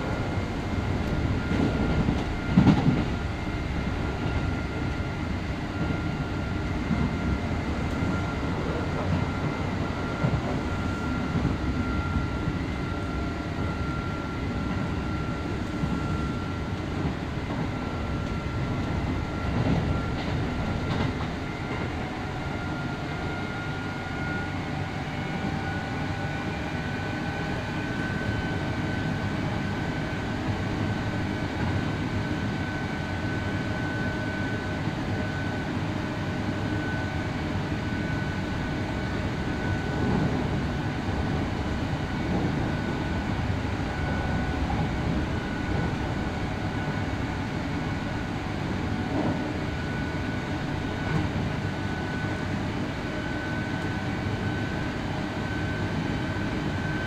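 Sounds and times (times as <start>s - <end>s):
wheels rumbling on track: 0.0s - 57.0s.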